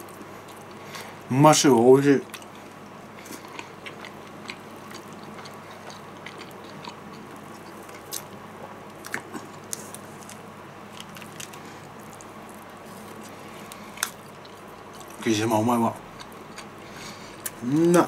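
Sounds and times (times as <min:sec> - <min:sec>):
person chewing fried chicken: 0:00.0 - 0:01.2, 0:02.2 - 0:15.2, 0:16.0 - 0:18.0.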